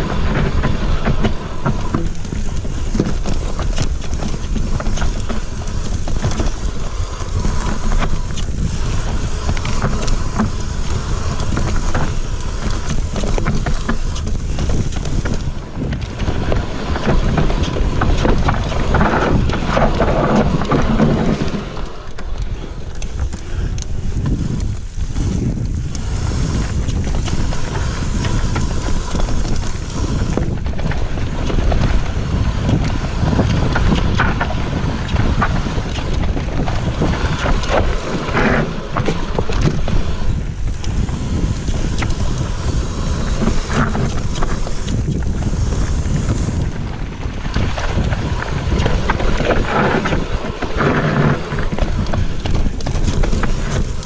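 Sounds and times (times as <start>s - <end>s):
bike rattling and knocking: 0.0s - 54.0s
tyres rolling on dirt: 0.0s - 54.0s
wind buffeting microphone: 0.0s - 54.0s.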